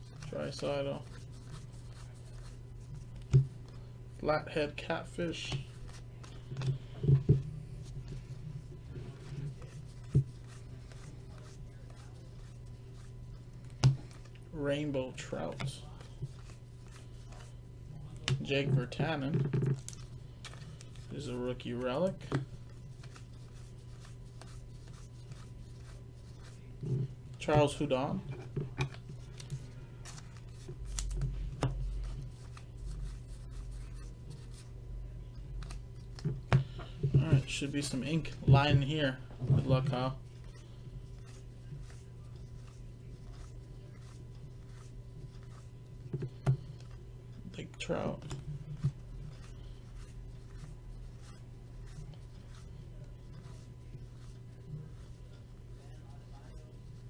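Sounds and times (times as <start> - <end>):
trading cards tapping and rustling: 0.0 - 3.9, 5.2 - 14.4, 15.1 - 34.7, 35.4 - 57.0
low electrical hum: 0.0 - 57.0.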